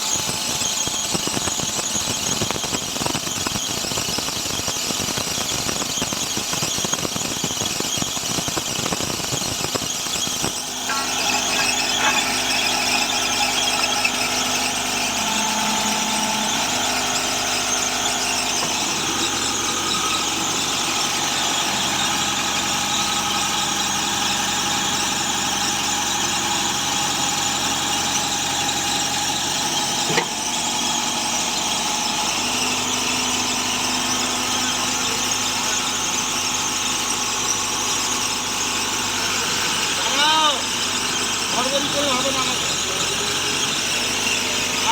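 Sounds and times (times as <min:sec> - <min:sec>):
drilling machine engine whining: 0:00.0 - 0:44.9.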